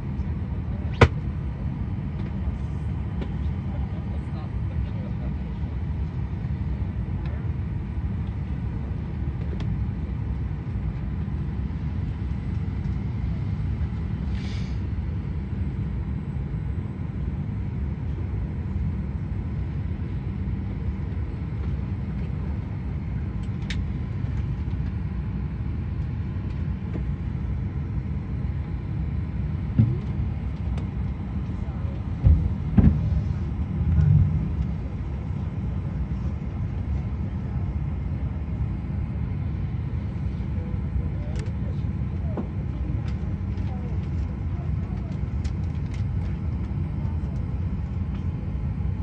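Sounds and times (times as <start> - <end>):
low rumble of aircraft machinery: 0.0 - 49.0.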